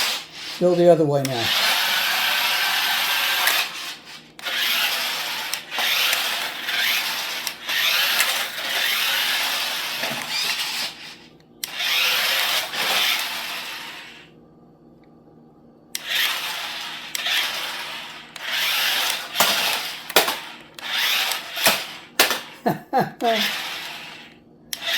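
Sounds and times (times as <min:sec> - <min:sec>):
wheels scrubbing on floor: 0:00.0 - 0:14.2, 0:16.0 - 0:22.5
toy car motors whirring: 0:00.0 - 0:14.3, 0:16.0 - 0:22.6, 0:23.2 - 0:24.9.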